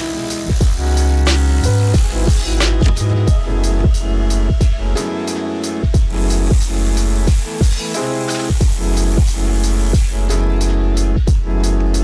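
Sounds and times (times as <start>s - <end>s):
electronic music with heavy kick: 0.0s - 12.0s.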